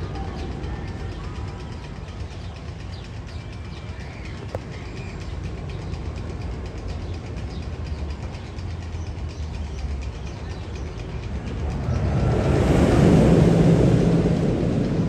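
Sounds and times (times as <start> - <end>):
roller coaster train rumbling: 0.0 - 15.0.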